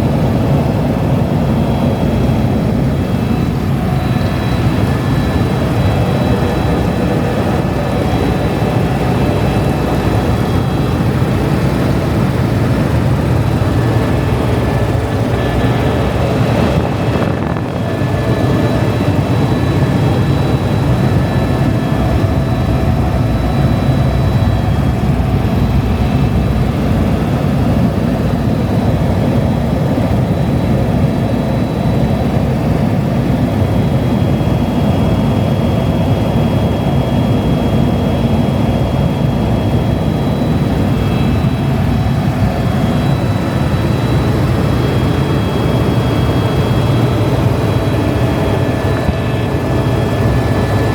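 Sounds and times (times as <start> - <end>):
helicopter rotor and turbine drone: 0.0 - 50.9
faint high whine: 0.2 - 32.6, 38.0 - 50.9.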